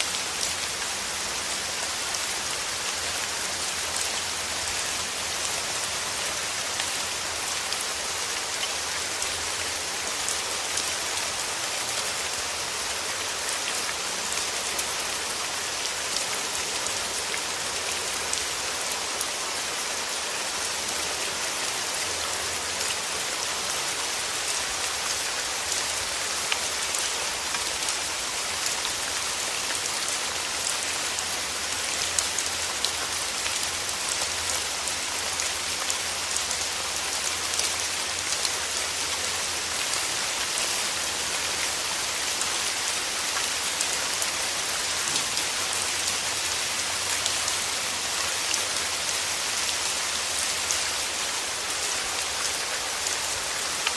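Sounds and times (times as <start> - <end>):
rain falling on petals: 0.0 - 53.9.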